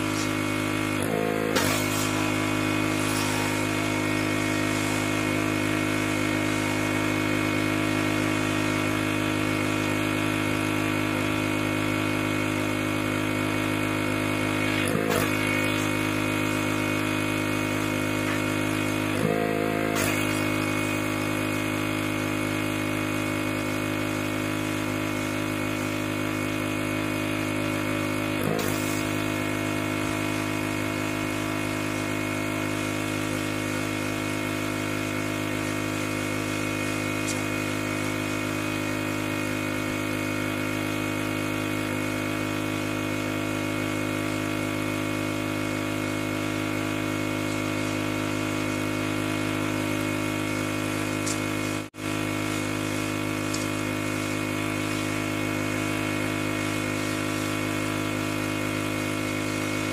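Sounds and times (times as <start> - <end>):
pressure washer humming: 0.0 - 59.9.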